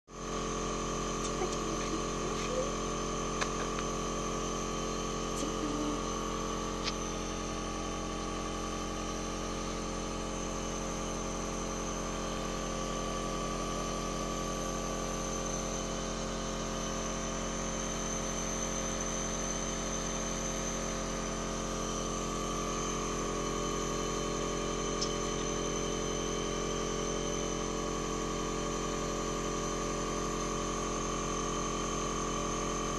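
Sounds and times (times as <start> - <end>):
nebulizer compressor humming: 0.2 - 32.9.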